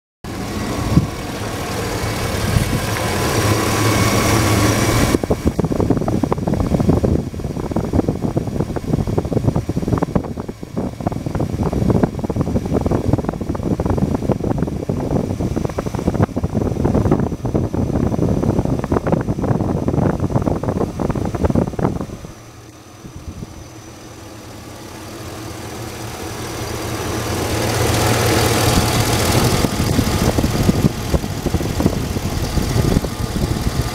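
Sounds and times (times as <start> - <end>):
pickup engine idling: 0.3 - 33.9.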